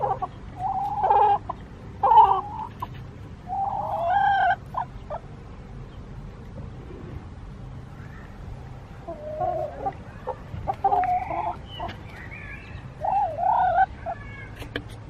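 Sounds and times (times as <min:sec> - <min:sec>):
chickens calling: 0:00.0 - 0:07.2, 0:07.8 - 0:15.0
chickens clucking: 0:00.0 - 0:07.3, 0:08.2 - 0:15.0.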